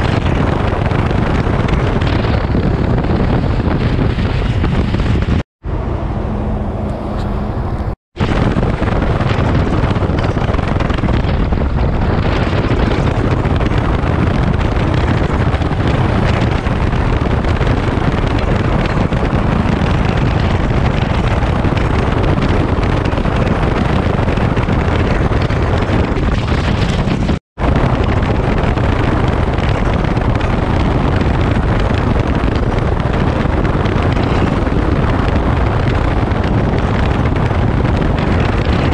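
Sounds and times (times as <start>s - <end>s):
motorcycle engine at speed: 0.0s - 38.9s
wind rushing over microphone: 0.0s - 38.9s.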